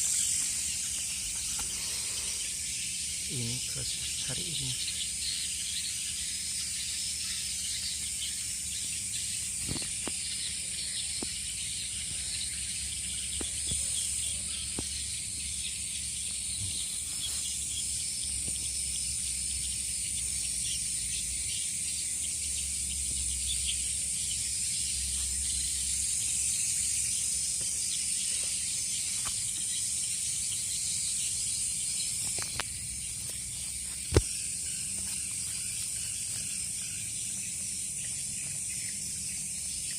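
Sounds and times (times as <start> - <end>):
high-pitched insect drone: 0.0 - 39.9
insect chirping: 0.0 - 39.9.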